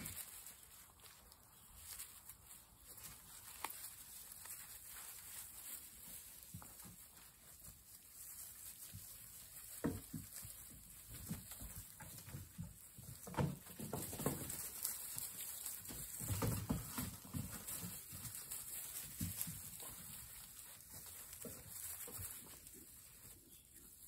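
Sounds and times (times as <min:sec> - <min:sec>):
puppies rustling in hay: 0:00.0 - 0:24.0.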